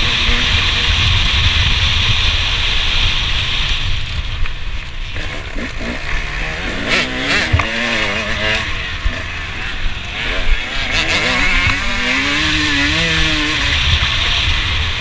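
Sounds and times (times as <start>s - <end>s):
motocross engine revving: 0.0s - 3.9s, 5.0s - 15.0s
wind rushing over microphone: 0.0s - 15.0s.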